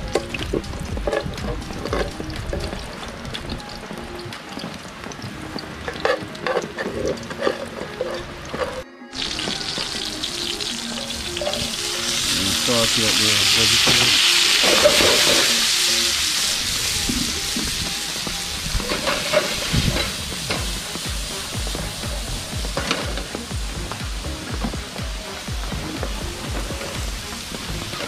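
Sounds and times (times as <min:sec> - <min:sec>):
grease frying in a pan: 0:00.0 - 0:28.0
vegetables sizzling in fat: 0:00.0 - 0:28.0.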